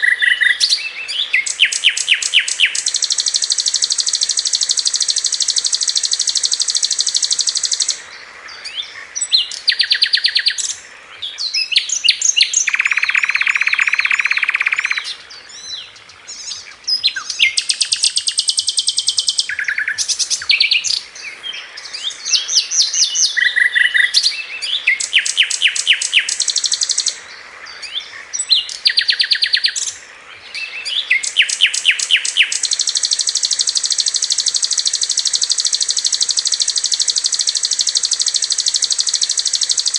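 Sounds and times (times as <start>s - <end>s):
flycatcher singing trills: 0.0s - 39.9s.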